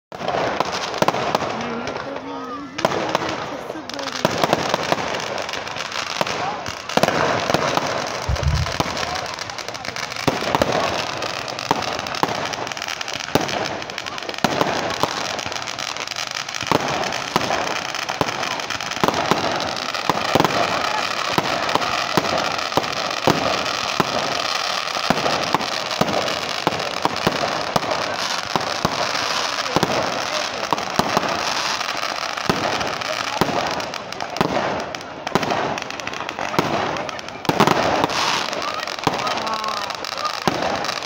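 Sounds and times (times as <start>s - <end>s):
fireworks bangs and crackles: 0.1s - 41.0s.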